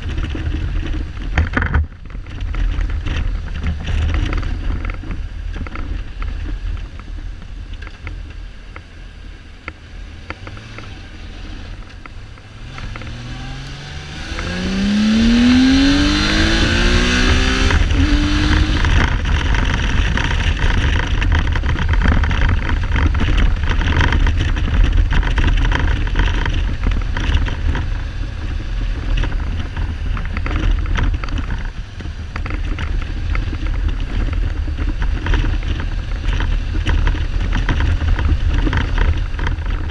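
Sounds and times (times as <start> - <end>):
wind noise on microphone: 0.0 - 9.1, 10.1 - 39.9.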